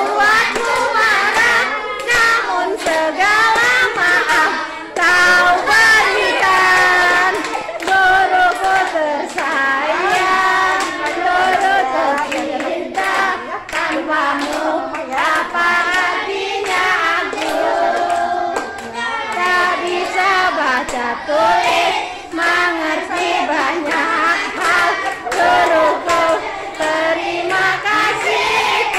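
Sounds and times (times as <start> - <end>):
children clapping hands: 0.0 - 28.9
children singing together: 0.0 - 28.9.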